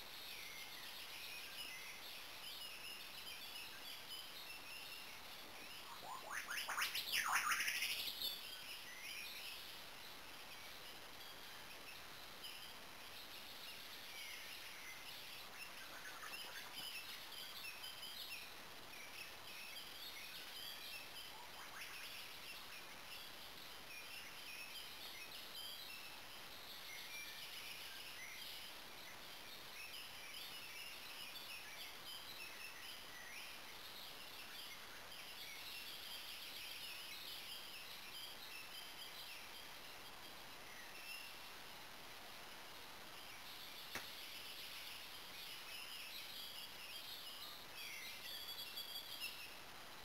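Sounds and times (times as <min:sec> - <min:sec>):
background hiss: 0:00.0 - 0:50.0
faint birdsong: 0:00.0 - 0:50.0.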